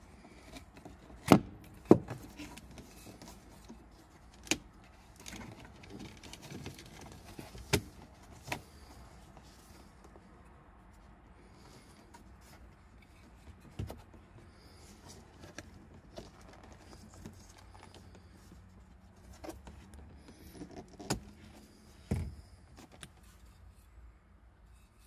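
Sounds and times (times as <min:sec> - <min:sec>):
wire handling clicks and rustles: 0:00.0 - 0:24.0.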